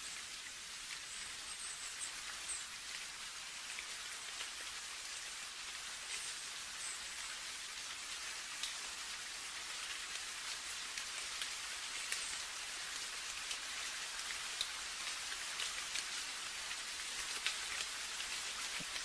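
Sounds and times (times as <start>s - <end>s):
raindrops ticking close by: 0.0s - 19.0s
steady rain falling: 0.0s - 19.0s.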